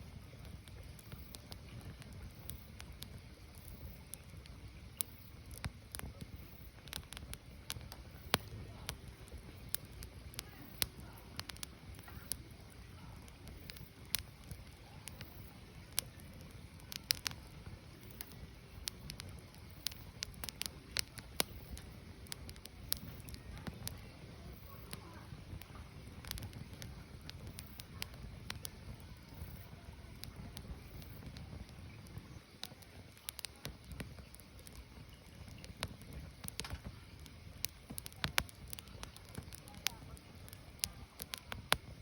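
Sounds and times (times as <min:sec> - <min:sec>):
firewood crackling and popping: 0:00.0 - 0:42.0
low rumble of flames: 0:00.0 - 0:42.0.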